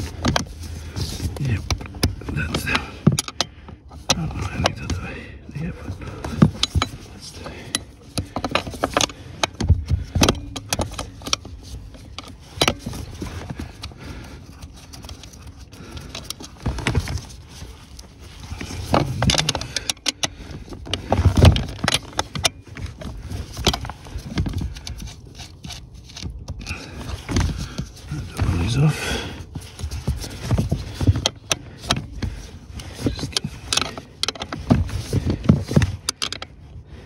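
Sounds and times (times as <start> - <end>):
tools clicking and knocking: 0.0 - 5.1, 5.7 - 28.8, 29.4 - 36.8.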